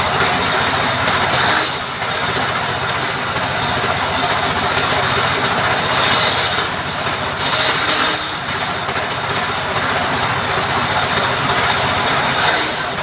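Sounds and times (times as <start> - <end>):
power saw cutting wood: 0.0 - 13.0.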